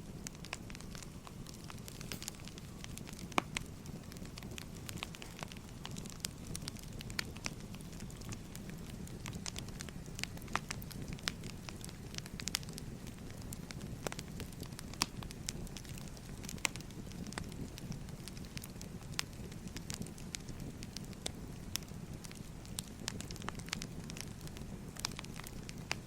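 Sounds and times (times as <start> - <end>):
low rumble of burning logs: 0.0 - 26.0
wood fire popping and snapping: 0.0 - 26.0.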